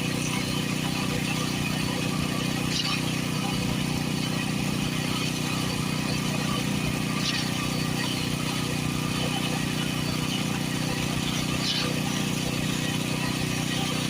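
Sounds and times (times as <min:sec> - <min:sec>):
concrete pump engine running: 0:00.0 - 0:14.0.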